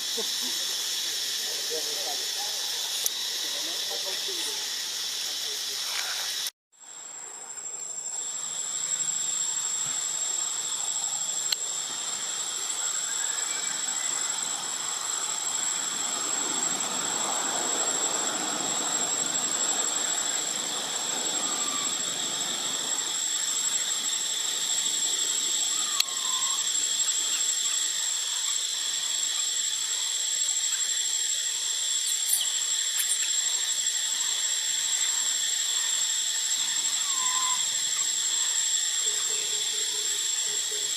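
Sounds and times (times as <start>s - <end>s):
insect drone: 0.0s - 40.9s
steady hiss: 0.0s - 40.9s.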